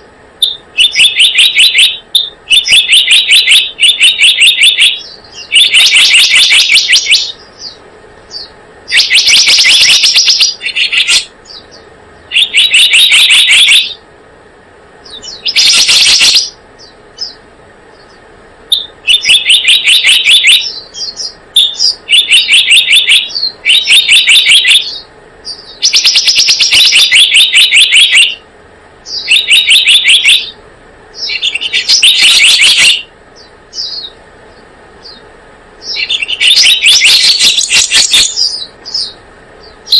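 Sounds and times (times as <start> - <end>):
fast high bird chirps: 0.0 - 14.0, 15.0 - 28.4, 29.0 - 39.9.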